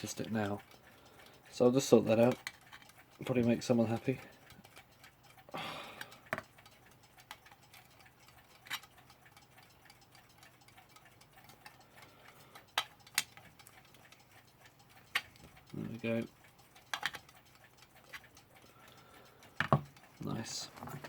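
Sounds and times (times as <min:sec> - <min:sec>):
alarm clock ticking: 0:00.0 - 0:21.0.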